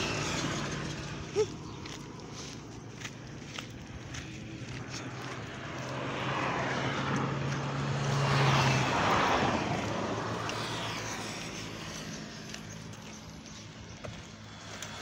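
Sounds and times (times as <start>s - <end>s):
vehicle driving past: 0.0s - 15.0s.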